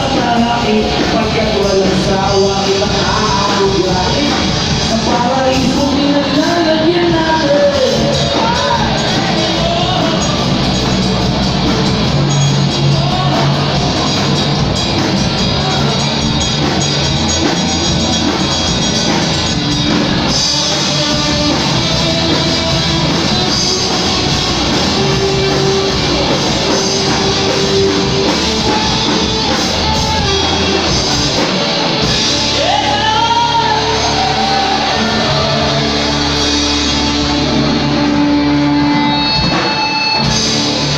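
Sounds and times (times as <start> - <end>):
person singing: 0.0 - 37.6
live rock band playing: 0.0 - 40.9.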